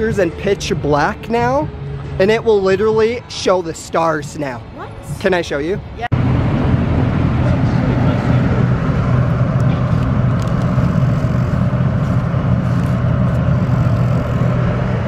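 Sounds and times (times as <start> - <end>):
street traffic engine hum: 0.0 - 15.0.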